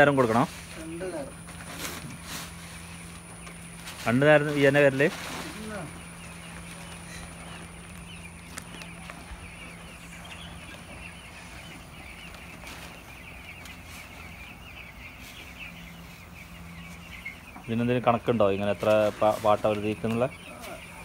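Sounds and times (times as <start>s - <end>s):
chicks peeping: 0.0s - 21.0s
low steady hum: 0.0s - 21.0s.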